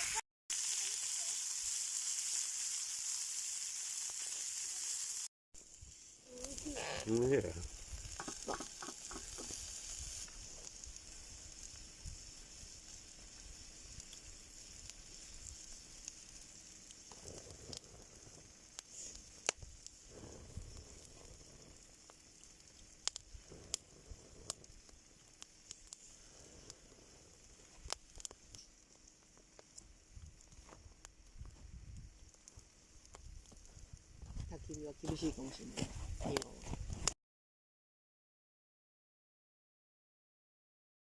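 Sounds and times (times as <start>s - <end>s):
campfire popping and crackling: 0.0s - 37.2s
sausages sizzling in a skillet: 0.0s - 37.2s.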